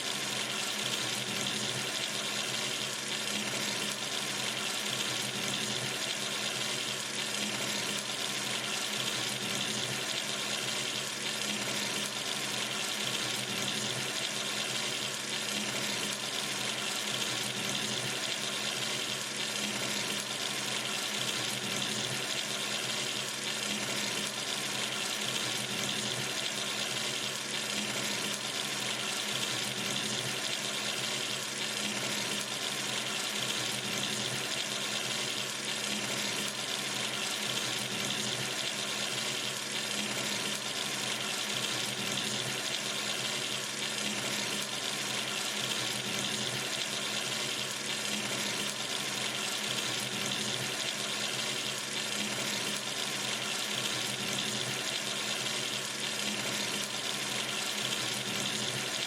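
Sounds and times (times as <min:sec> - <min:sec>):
tap water running into sink: 0:00.1 - 0:59.0.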